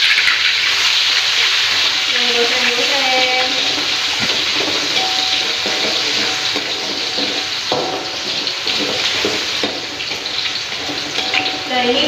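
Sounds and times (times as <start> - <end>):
food sizzling in hot oil: 0.0 - 12.0
fork scraping a pan: 1.2 - 12.0.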